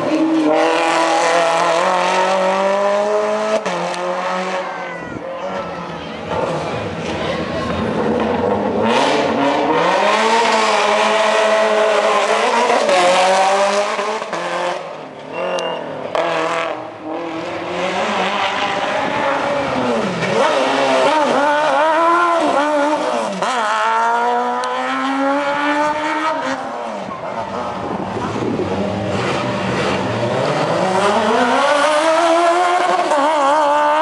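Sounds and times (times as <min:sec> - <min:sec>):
race car engines accelerating: 0:00.0 - 0:34.0.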